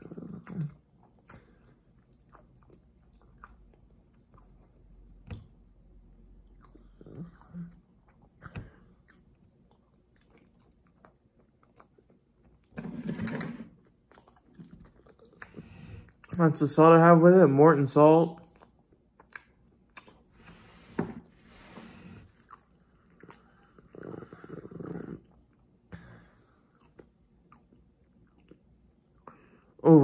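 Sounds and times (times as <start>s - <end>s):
person chewing food: 0.3s - 12.8s, 13.7s - 16.4s, 18.4s - 20.4s, 22.3s - 29.8s.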